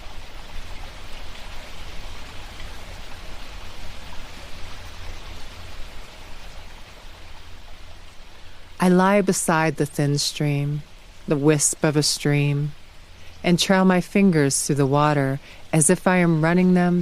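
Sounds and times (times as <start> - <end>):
mountain stream trickling: 0.0 - 17.0.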